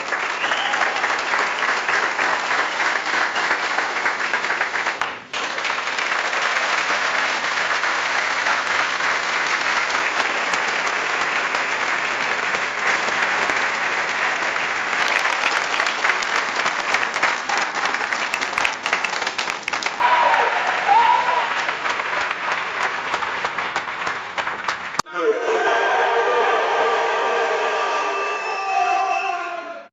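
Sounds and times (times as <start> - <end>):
crowd applause: 0.0 - 29.6.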